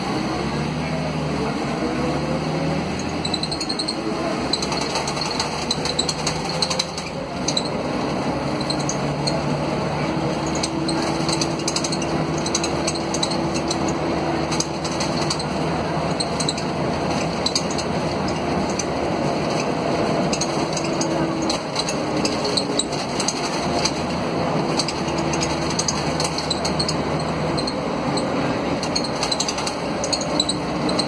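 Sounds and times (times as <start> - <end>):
bus body and windows rattling: 0.0 - 31.0
bus diesel engine drone: 0.0 - 31.0.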